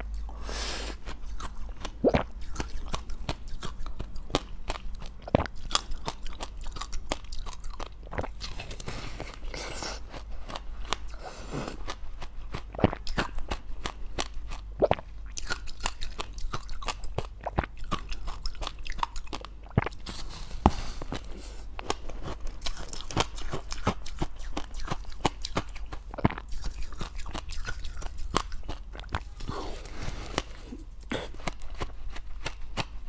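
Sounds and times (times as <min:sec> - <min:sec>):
chewing ice crunching: 0:01.0 - 0:20.4, 0:21.1 - 0:33.0.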